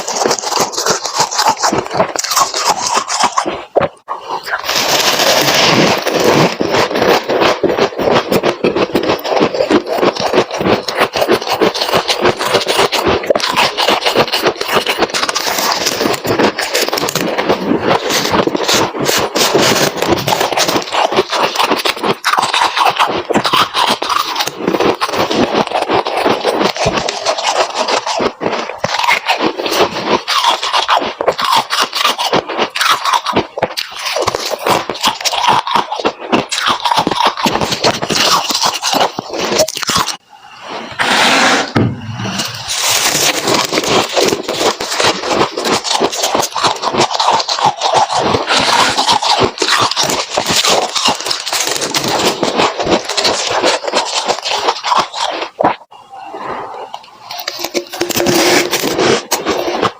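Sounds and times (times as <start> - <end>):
frost being chewed: 0.0 - 40.2, 42.1 - 55.9, 56.7 - 59.9.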